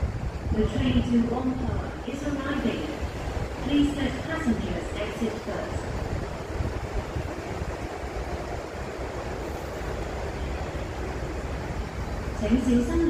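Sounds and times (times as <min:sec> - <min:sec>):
steady low rumbling noise: 0:00.0 - 0:13.0.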